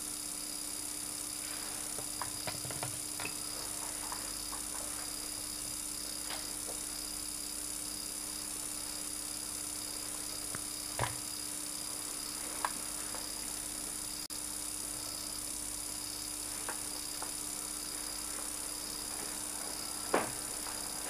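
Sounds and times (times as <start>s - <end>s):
camcorder hum and hiss: 0.0s - 21.0s.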